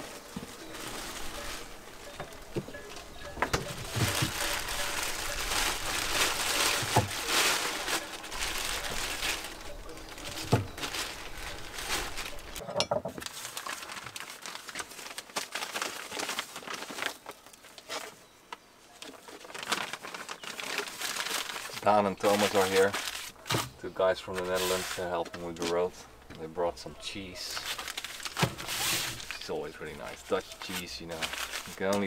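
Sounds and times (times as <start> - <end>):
paper wrapping crinkling: 0.0 - 12.6, 13.2 - 18.2, 18.9 - 32.0.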